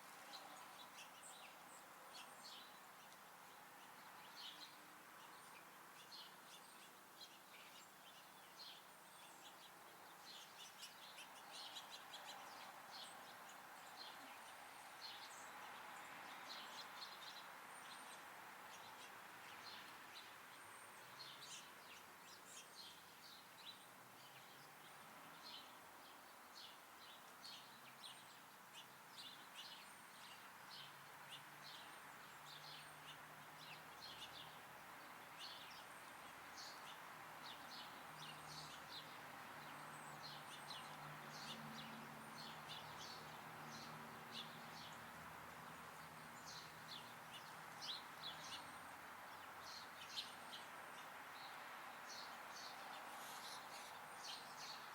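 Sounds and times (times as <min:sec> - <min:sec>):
faint background hiss: 0:00.0 - 0:54.9
small songbirds chirping: 0:00.0 - 0:54.9.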